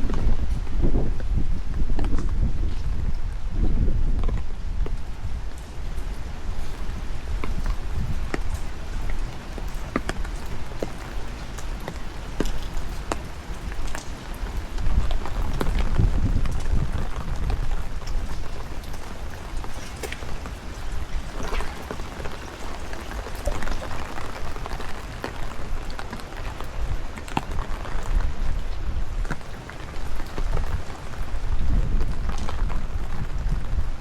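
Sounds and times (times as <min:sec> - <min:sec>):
steady rain: 0:00.0 - 0:34.0
wind buffeting microphone: 0:00.0 - 0:34.0.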